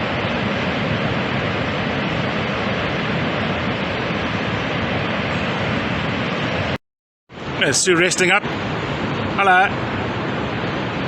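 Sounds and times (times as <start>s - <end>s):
waterfall rushing: 0.0s - 6.8s, 7.4s - 11.0s.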